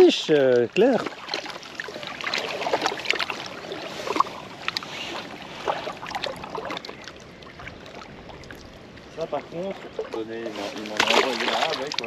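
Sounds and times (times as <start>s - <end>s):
small splashes and clicks: 0.0s - 12.0s
water lapping against rocks: 0.0s - 12.0s.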